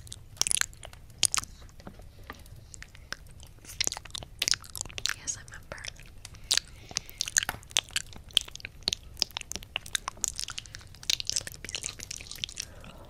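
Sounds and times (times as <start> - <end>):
wet mouth clicks and smacks: 0.0 - 13.0.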